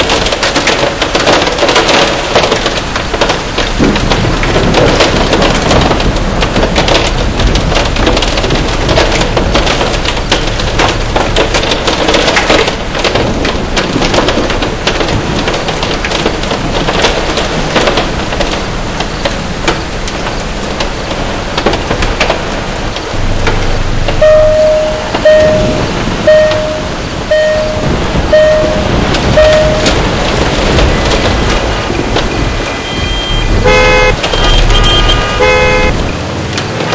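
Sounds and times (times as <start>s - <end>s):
hailstones ticking on car: 0.0s - 36.9s
heavy rain hissing: 0.0s - 36.9s.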